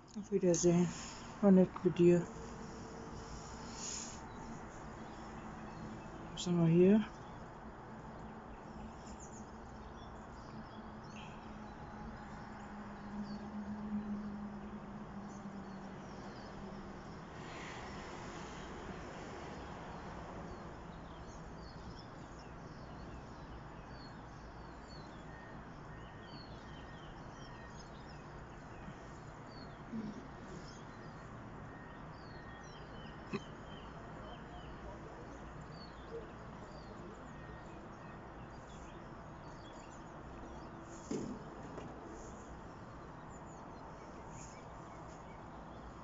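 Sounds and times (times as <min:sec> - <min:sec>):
outdoor background hum: 0:00.0 - 0:46.0
songbirds chirping: 0:00.0 - 0:46.0.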